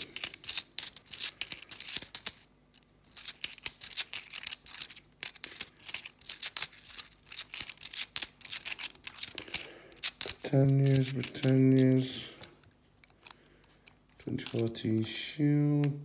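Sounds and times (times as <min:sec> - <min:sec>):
coins clinking and scraping: 0:00.0 - 0:15.1.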